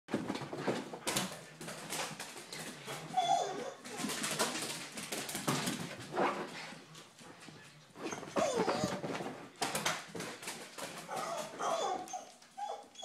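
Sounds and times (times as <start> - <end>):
dog paws scrabbling on wooden floor: 0.1 - 13.0.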